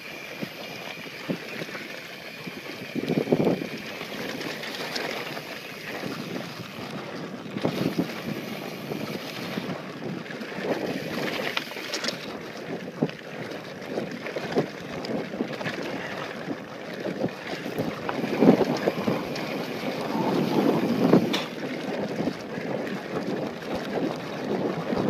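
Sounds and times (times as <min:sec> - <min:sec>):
bike rattling and knocking: 0:00.0 - 0:25.0
wind noise on microphone: 0:00.0 - 0:25.0.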